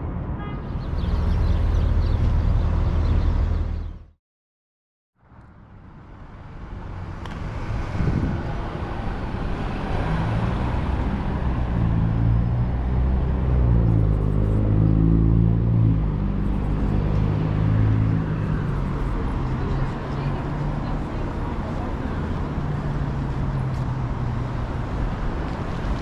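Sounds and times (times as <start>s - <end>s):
street traffic noise: 0.0s - 4.2s, 5.2s - 26.0s.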